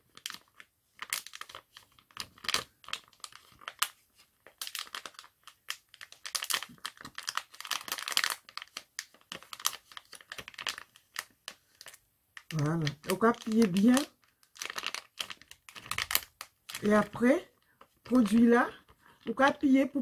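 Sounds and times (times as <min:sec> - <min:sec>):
plastic sachet crinkling: 0:00.0 - 0:20.0.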